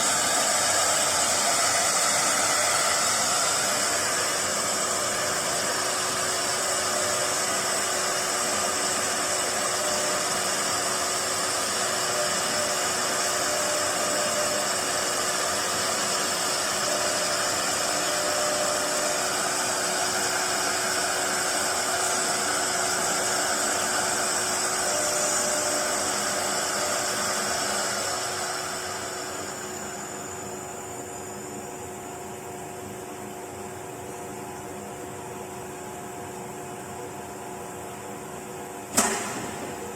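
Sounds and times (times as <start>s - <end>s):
router spindle whine: 0.0s - 32.6s.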